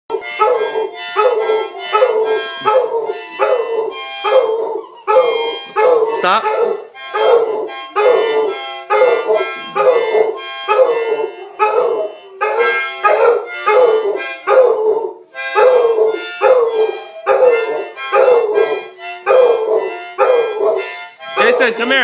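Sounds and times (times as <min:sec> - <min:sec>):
dog howling: 0:00.1 - 0:21.8
harmonica playing chords: 0:00.1 - 0:22.0.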